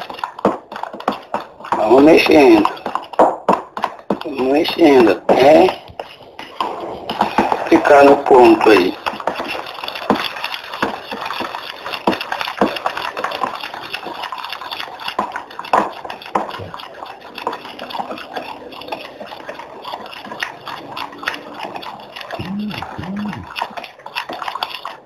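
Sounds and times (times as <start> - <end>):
spoon stirring slime: 0.0 - 25.0.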